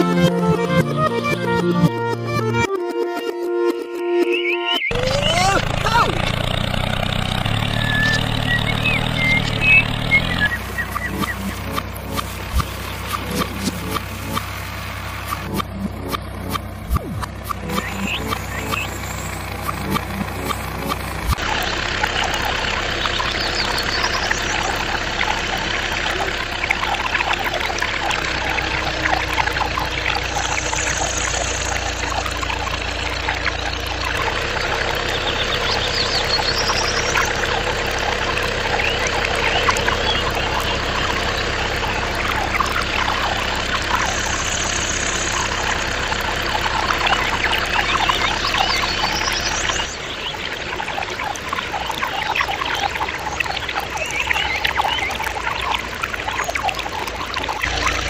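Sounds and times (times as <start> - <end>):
water pump humming: 4.9 - 58.0
water splashing into pond: 4.9 - 58.0.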